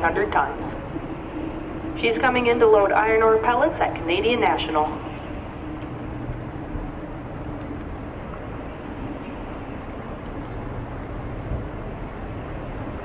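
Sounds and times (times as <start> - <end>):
continuous low rumble: 0.0 - 13.0.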